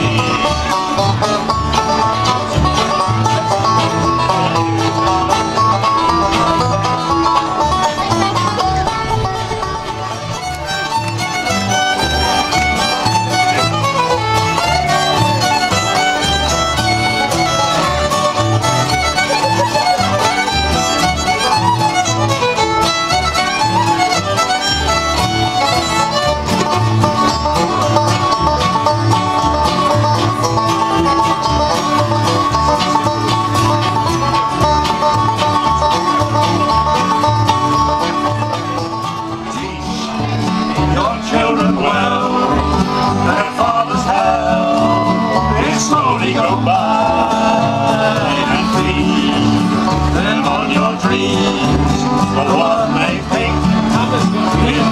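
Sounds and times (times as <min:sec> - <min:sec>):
acoustic guitars: 0:00.0 - 0:54.9
banjo: 0:00.0 - 0:54.9
fiddle melody: 0:00.0 - 0:54.9
upright double bass: 0:00.0 - 0:54.9.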